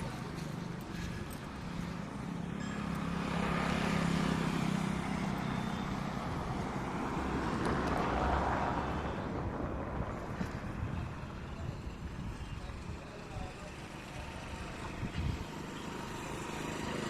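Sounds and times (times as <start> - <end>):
tyre and road noise: 0.0 - 17.0
vehicle engine hum passing: 0.0 - 17.0.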